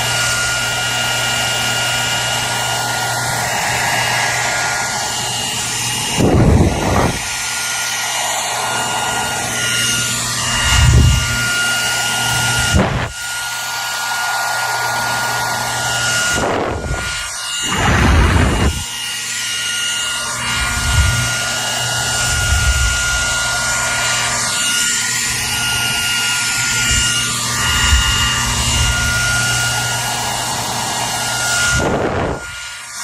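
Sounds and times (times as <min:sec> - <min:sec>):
hair dryer running: 0:00.0 - 0:33.0
hair dryer whoosh: 0:00.0 - 0:33.0.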